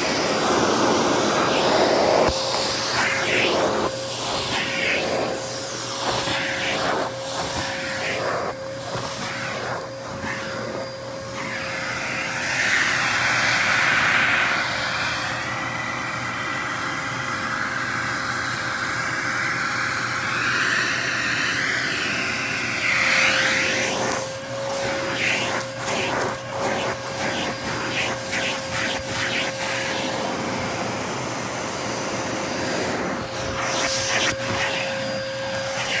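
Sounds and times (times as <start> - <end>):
vacuum cleaner motor whine: 0.0 - 36.0
vacuum suction surging on carpet: 0.0 - 36.0.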